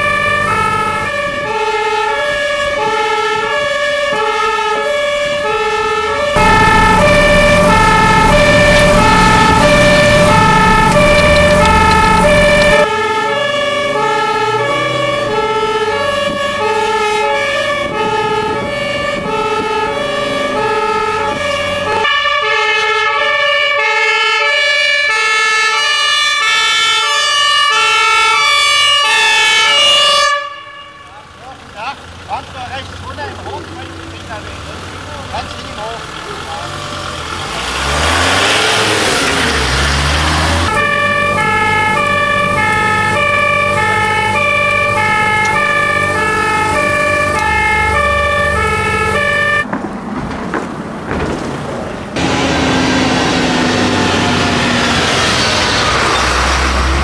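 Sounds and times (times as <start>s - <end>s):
two-tone fire engine siren: 0.0s - 31.6s, 35.3s - 49.7s, 52.2s - 57.0s
fire truck engine and road noise: 0.0s - 57.0s.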